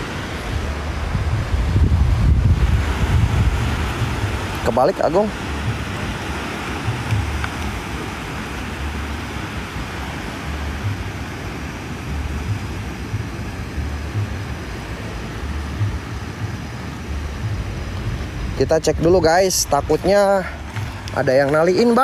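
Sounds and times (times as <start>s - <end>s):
sea surf rushing: 0.0s - 22.0s
wind buffeting microphone: 0.0s - 22.0s.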